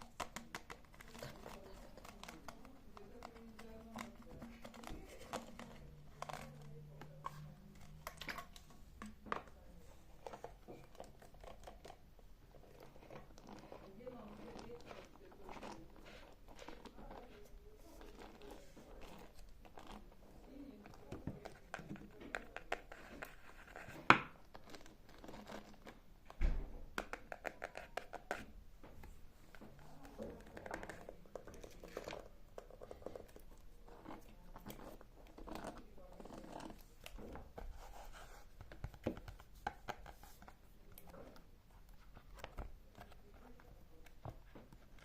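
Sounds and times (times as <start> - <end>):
crinkling and tearing: 0.0 - 9.2, 10.1 - 26.5, 27.1 - 45.0.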